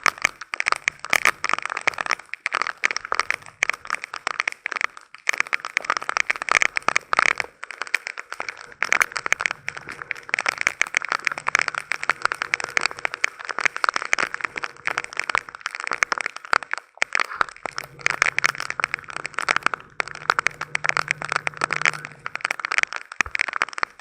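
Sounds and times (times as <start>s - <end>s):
heavy rain on hard surface: 0.0s - 24.0s.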